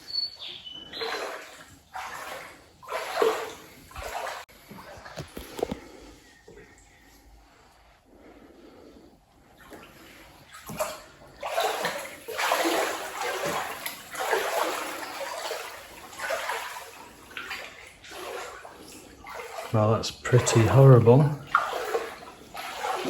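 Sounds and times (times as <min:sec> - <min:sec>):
floodwater sloshing and splashing: 0:00.0 - 0:23.0.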